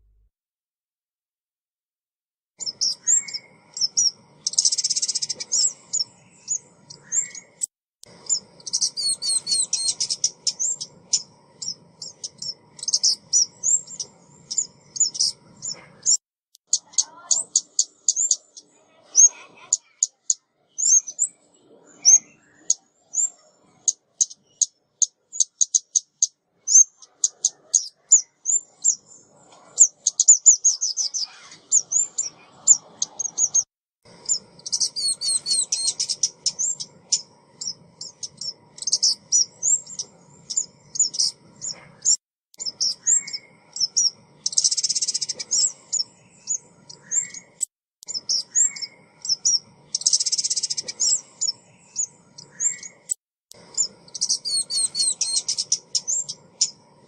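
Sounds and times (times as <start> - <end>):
bird chirping and tweeting: 2.6 - 56.9
buzzy bird trills: 2.6 - 57.0.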